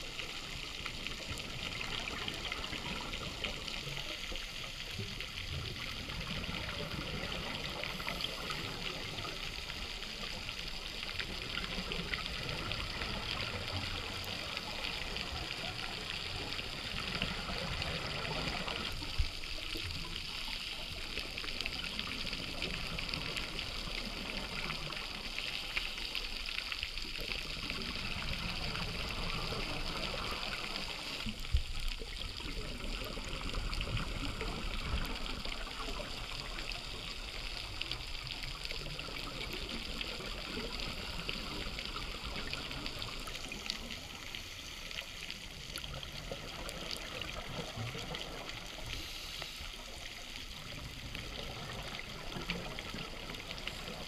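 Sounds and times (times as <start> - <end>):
bubbles gurgling: 0.0 - 25.4, 27.0 - 49.1, 49.7 - 54.0
underwater hiss and crackle: 0.0 - 54.0.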